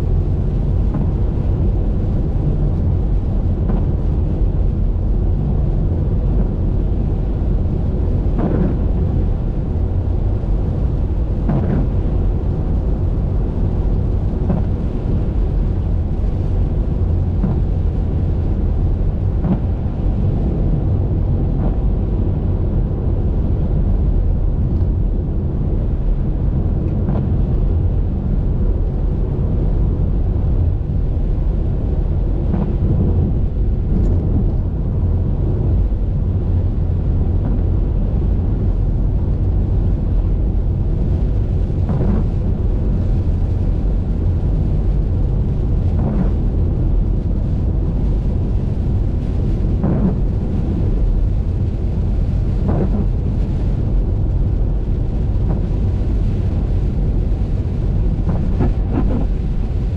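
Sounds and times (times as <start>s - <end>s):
car driving in rain: 0.1s - 59.9s.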